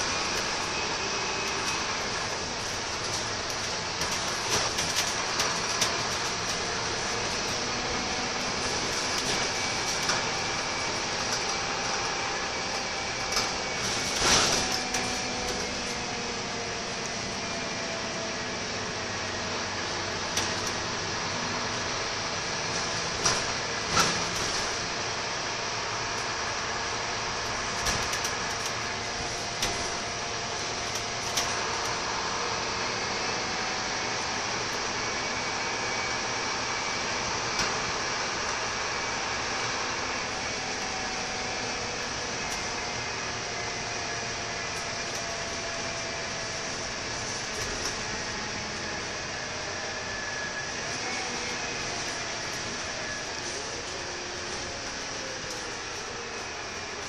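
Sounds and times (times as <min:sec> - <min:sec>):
bus engine hum: 0:00.0 - 0:57.0.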